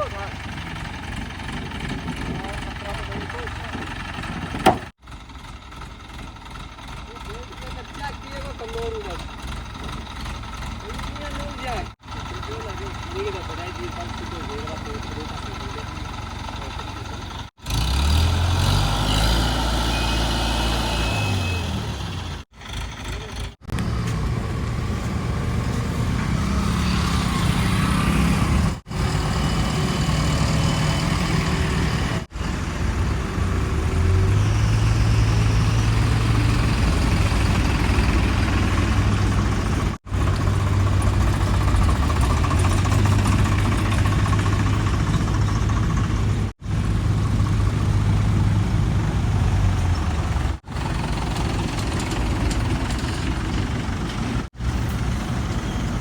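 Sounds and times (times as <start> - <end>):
heavy diesel engines revving: 0.0 - 56.0.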